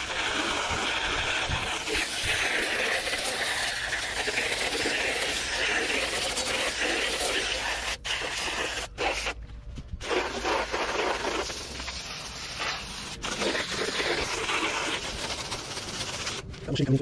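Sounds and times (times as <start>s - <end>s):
hose nozzle spraying water: 0.0s - 9.4s, 10.0s - 16.4s.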